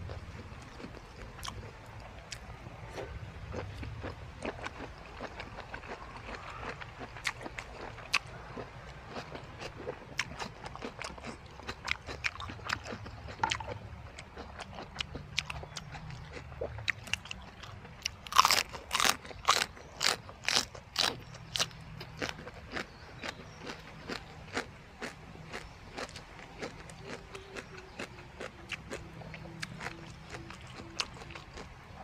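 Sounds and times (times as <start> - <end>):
person crunching food: 0.1 - 31.9.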